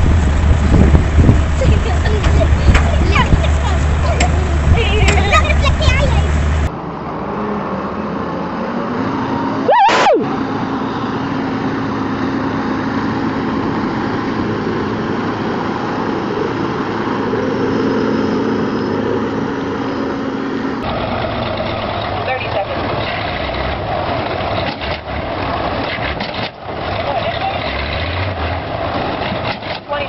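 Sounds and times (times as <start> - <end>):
tractor diesel engine running: 0.0 - 6.7, 10.3 - 30.0.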